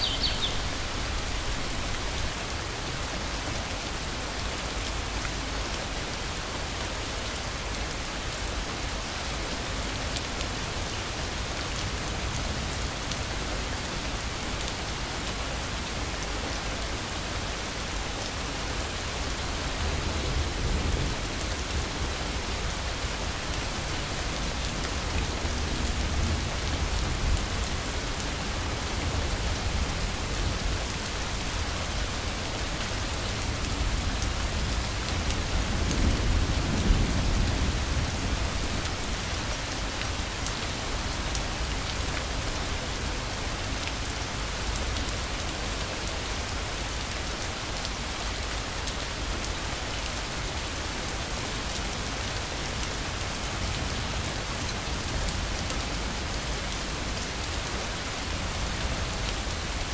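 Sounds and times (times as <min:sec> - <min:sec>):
dense rain hissing: 0:00.0 - 0:59.9.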